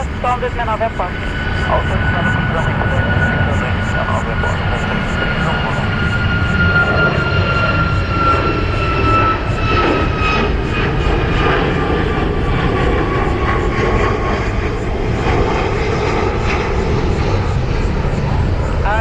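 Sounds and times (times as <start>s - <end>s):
jet airliner engines whining: 0.0s - 19.0s.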